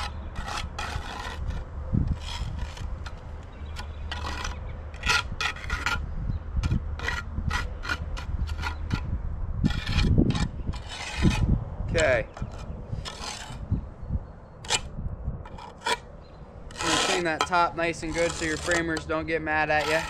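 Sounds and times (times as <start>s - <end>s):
trowel scraping wet concrete: 0.0s - 6.0s, 6.6s - 9.0s, 9.7s - 13.6s, 14.6s - 14.9s, 15.5s - 16.1s, 16.7s - 20.0s.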